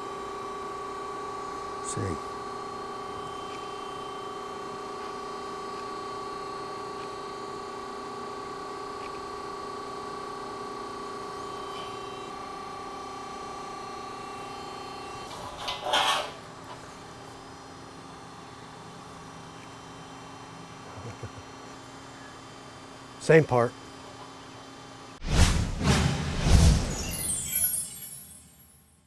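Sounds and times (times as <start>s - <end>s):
hydraulic machine hum: 0.0s - 25.2s.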